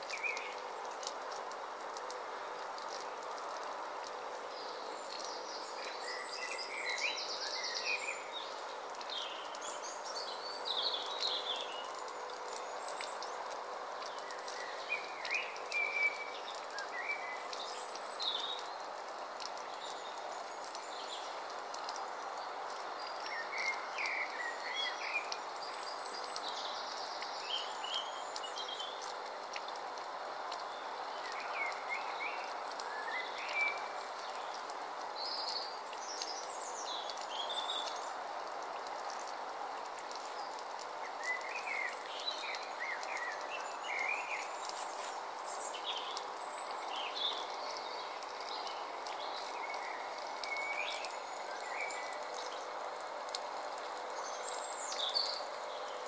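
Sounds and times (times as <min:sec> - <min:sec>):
songbirds chirping: 0:00.0 - 0:56.0
water trickling over pebbles: 0:00.0 - 0:56.0.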